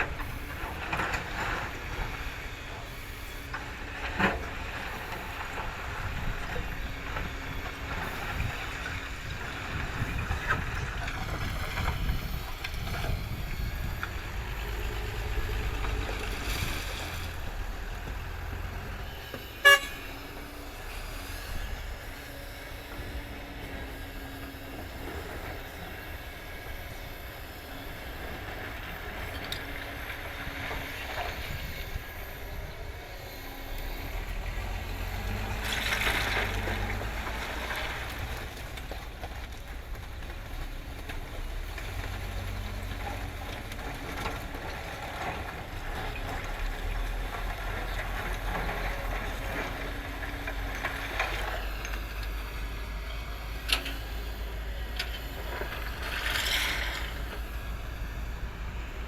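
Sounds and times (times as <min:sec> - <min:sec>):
excavator engine running: 0:00.0 - 0:59.0
tow truck engine running: 0:00.0 - 0:59.0.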